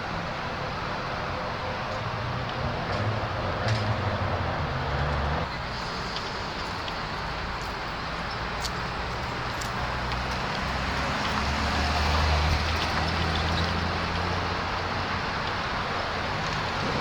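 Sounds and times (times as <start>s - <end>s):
hum of idling cars and traffic: 0.0s - 17.0s.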